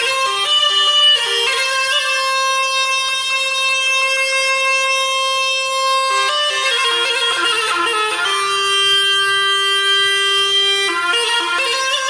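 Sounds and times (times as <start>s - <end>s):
bagpipe melody: 0.0s - 12.0s.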